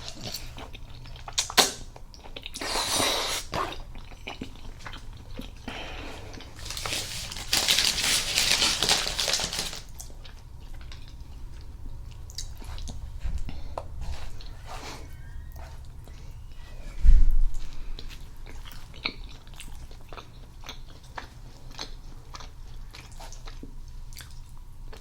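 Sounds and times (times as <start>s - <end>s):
wet chewing: 0.0s - 16.6s, 17.5s - 25.0s.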